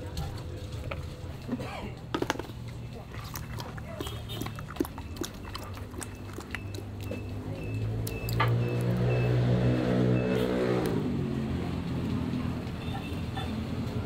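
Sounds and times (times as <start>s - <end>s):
vehicle engine passing: 2.6s - 14.0s.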